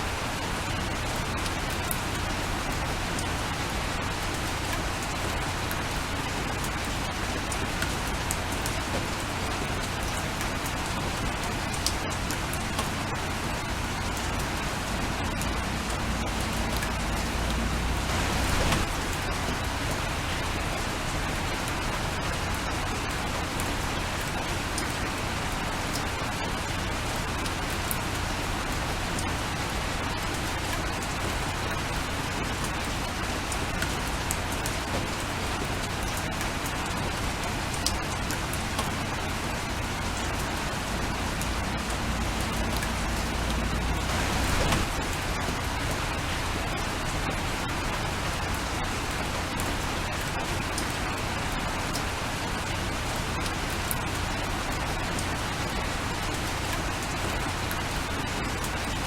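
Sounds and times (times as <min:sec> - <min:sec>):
steady rain falling: 0:00.0 - 0:59.0
raindrops ticking: 0:00.3 - 0:59.0.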